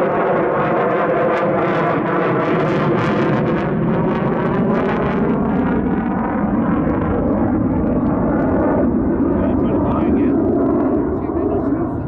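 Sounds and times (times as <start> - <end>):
jet flying overhead: 0.0 - 12.0.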